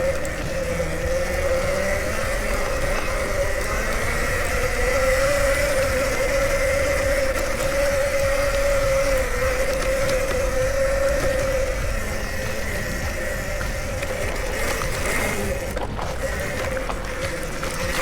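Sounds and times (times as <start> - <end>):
electric motor whining: 0.0 - 18.0
low wind: 0.0 - 18.0
trail rumble: 0.0 - 18.0.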